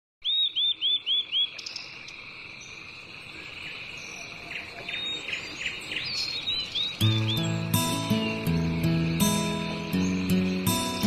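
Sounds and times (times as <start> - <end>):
bird chirps: 0.2 - 11.0
high insect drone: 1.5 - 11.0.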